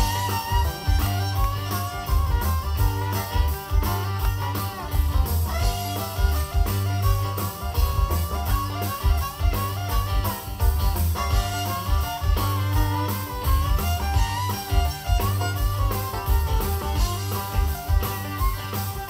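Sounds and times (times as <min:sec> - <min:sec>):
bluegrass band playing: 0:00.0 - 0:19.0.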